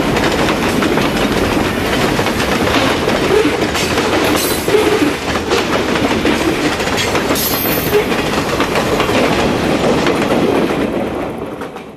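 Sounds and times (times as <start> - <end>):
train wheels clattering over rail joints: 0.0 - 11.9.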